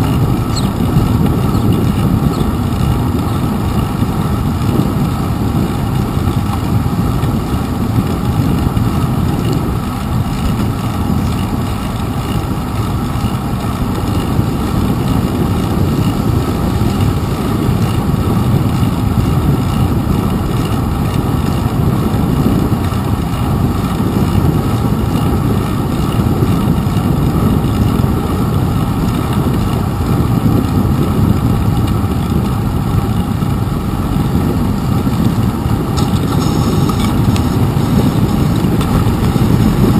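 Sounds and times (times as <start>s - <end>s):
tyres on wet pavement: 0.0s - 39.9s
wind on microphone: 0.0s - 39.9s.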